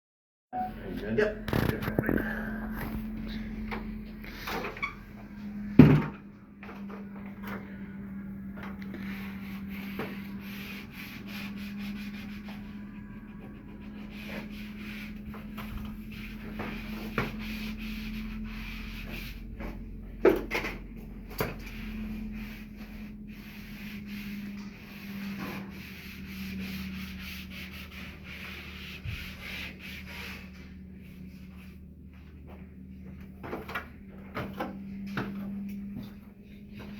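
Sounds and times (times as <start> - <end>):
tool scraping wallpaper: 0.6 - 5.9, 6.8 - 31.8.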